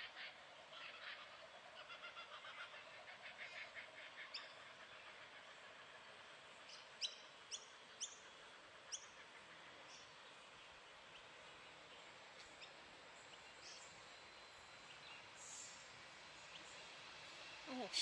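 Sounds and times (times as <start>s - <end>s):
faint birdsong twittering: 0.0s - 18.0s.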